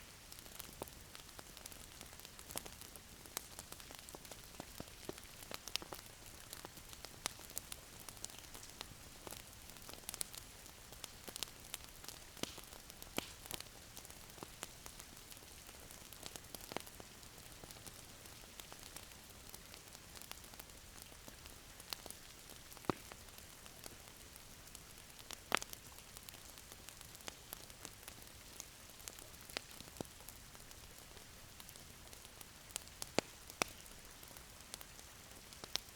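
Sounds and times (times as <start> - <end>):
wood fire crackling and popping: 0.2 - 35.9.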